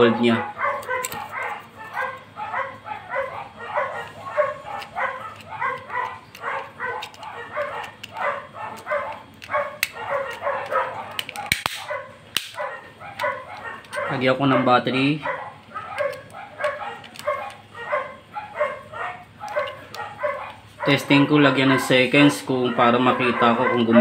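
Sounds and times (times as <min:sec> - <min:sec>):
dog yapping: 0:00.0 - 0:24.0.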